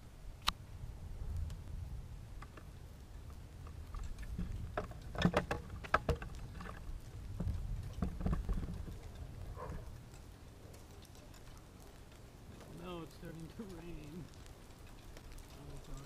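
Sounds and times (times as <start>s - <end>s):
steady low rumble: 0.0s - 16.0s
raindrops ticking: 0.4s - 16.0s.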